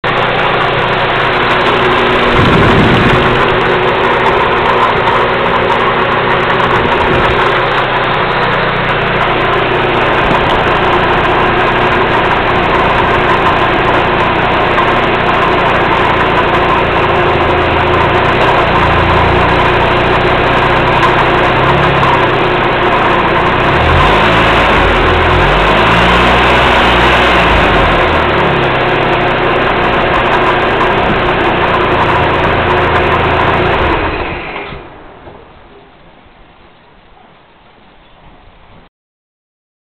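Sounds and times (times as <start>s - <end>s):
car engine idling with rattle: 0.0s - 38.8s.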